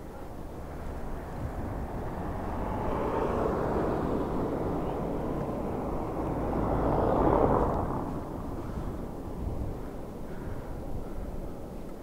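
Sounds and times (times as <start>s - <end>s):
cars passing: 0.0s - 12.0s
wind on microphone: 0.3s - 12.0s.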